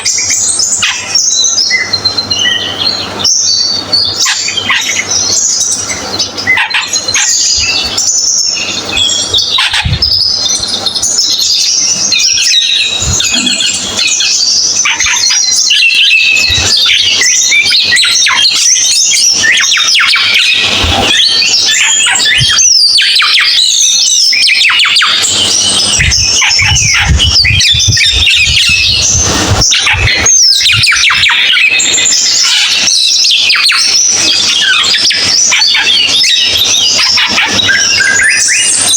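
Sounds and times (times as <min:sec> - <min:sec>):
songbird chattering: 0:00.0 - 0:38.9.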